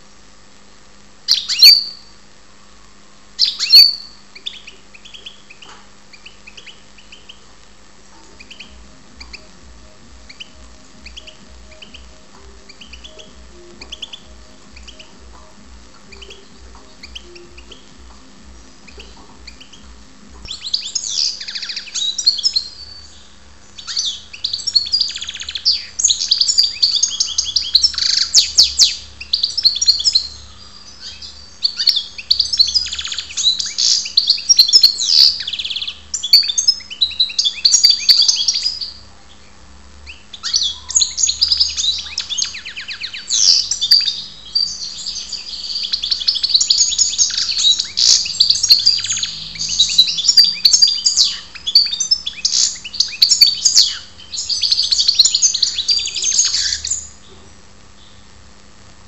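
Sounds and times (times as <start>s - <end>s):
goldfinch singing: 1.3s - 2.1s, 3.4s - 7.4s, 8.2s - 39.0s, 40.1s - 57.2s.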